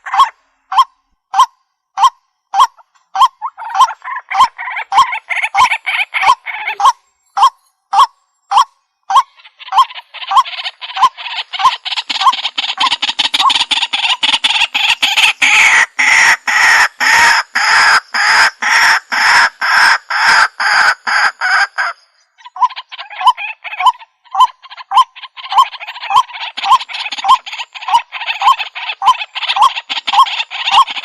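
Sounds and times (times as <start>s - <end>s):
waterhen croaking calls: 0.0s - 31.0s.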